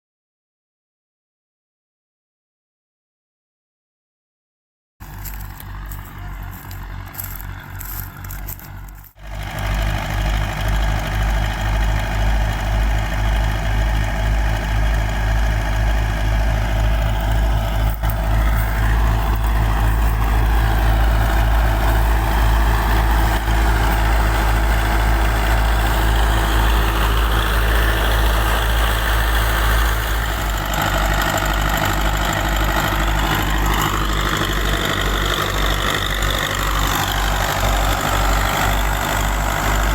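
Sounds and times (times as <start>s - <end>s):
diesel tractor engine pulsing: 5.0s - 39.9s
thresher whirring: 5.0s - 39.9s.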